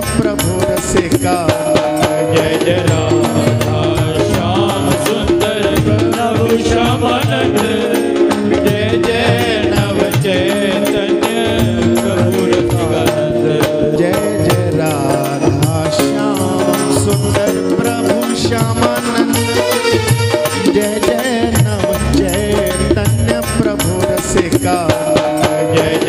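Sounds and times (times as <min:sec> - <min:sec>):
devotional music: 0:00.0 - 0:26.0
hand drum beat: 0:00.0 - 0:26.0.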